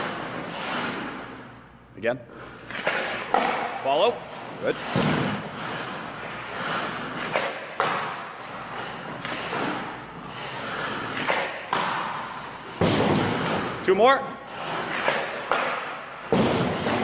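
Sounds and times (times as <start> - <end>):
skate blades scraping ice: 0.0 - 1.5, 2.4 - 17.0.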